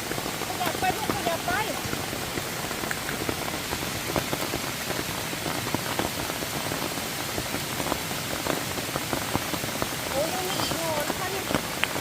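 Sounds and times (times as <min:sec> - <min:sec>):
water pattering: 0:00.0 - 0:12.0.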